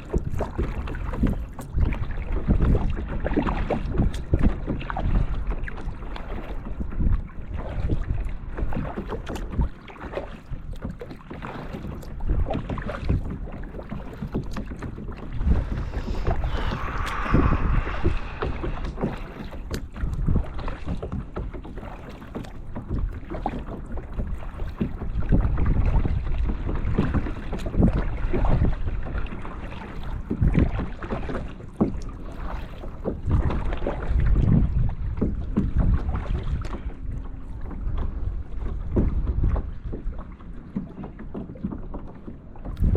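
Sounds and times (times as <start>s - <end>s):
wind rumbling on microphone: 0.0s - 9.8s, 11.8s - 42.9s
paddle strokes splashing water: 0.0s - 42.9s.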